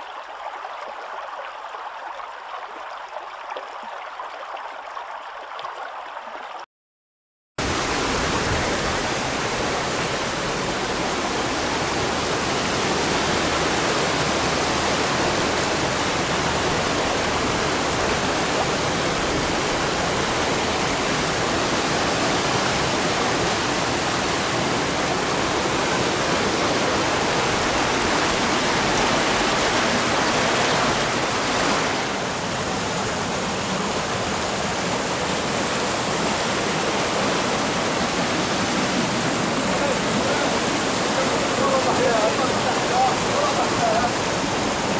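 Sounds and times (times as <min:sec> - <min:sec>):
water rushing over rocks: 0:07.6 - 0:44.9.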